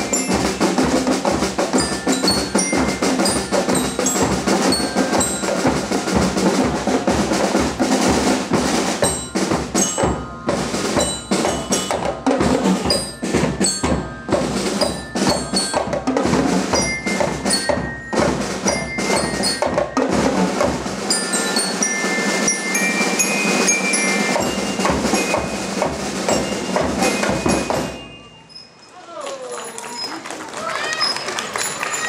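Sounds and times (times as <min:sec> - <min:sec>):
snare drums: 0:00.0 - 0:28.2
high bell-like notes: 0:00.0 - 0:28.9.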